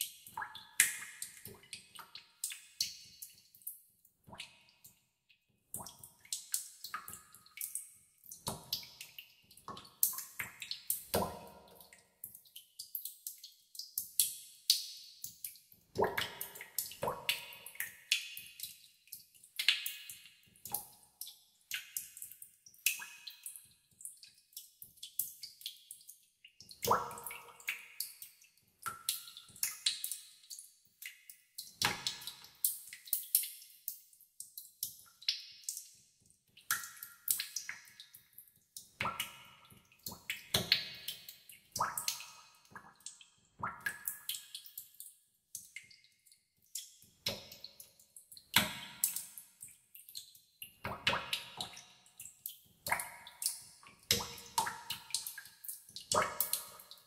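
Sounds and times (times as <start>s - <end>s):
echoing water drops in a pool: 0.0s - 57.0s.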